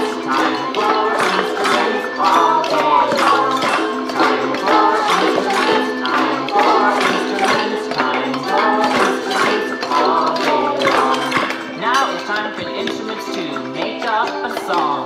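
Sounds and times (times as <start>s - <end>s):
sustained pitched notes: 0.0s - 13.1s
children singing: 0.0s - 15.0s
kitchen utensils tapped as percussion: 0.0s - 15.0s.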